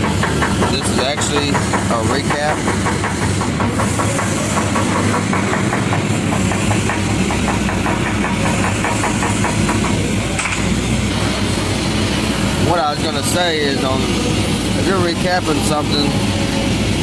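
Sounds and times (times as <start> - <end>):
welding machine engine running: 0.0 - 17.0.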